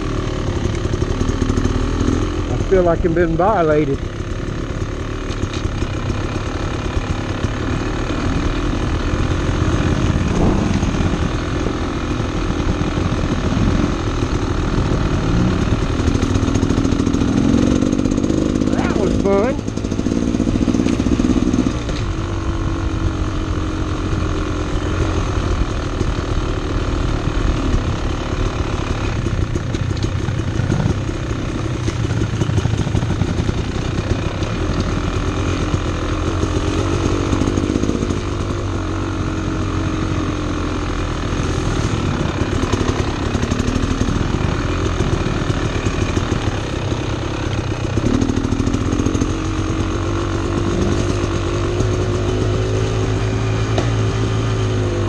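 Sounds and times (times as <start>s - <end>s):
two-stroke dirt bike engine: 0.0s - 55.0s.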